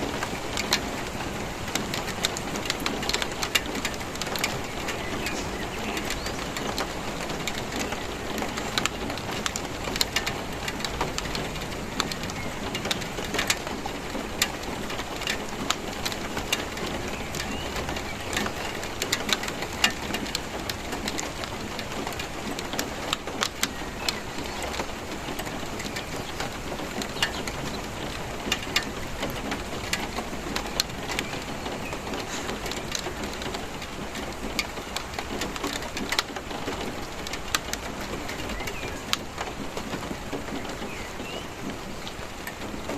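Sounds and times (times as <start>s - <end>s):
rain hissing: 0.0s - 42.9s
raindrops tapping on hard surface: 0.0s - 42.9s.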